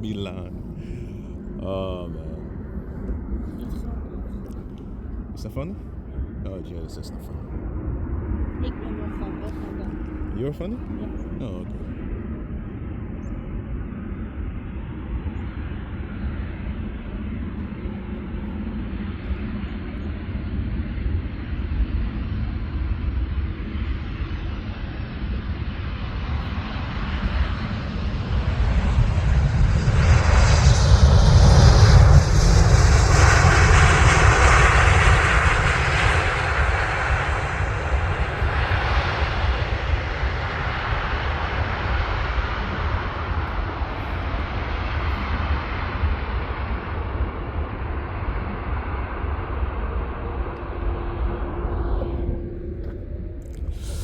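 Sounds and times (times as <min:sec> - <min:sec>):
jet airliner engine rumble: 0:00.0 - 0:54.0.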